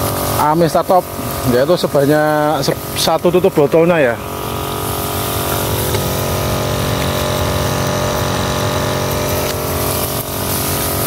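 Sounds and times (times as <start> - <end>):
crop sprayer motor drone: 0.0 - 11.0.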